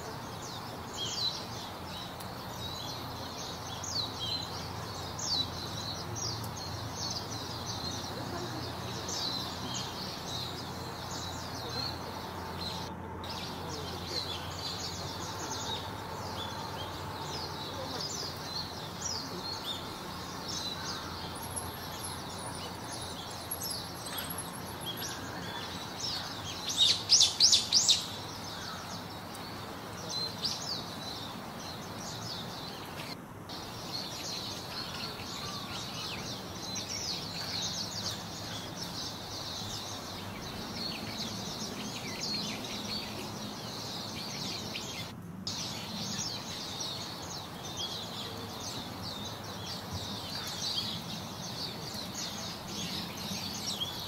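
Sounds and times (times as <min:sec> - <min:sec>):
low background noise: 0:00.0 - 0:54.0.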